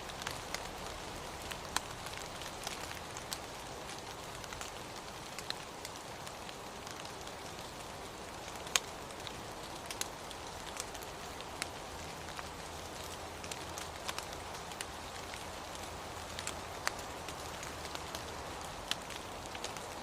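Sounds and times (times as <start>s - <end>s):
raindrops ticking: 0.0s - 20.0s
steady rain: 0.0s - 20.0s.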